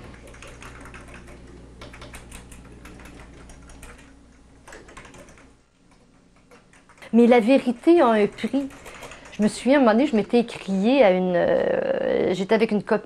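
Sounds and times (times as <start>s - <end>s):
typing on computer keyboard: 0.0s - 10.6s.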